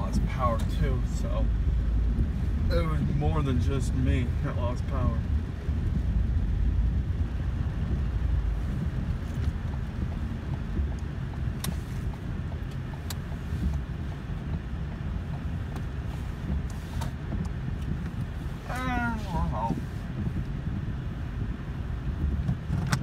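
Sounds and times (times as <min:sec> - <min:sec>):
car road and engine rumble: 0:00.0 - 0:23.0
heavy rain on car: 0:00.0 - 0:23.0.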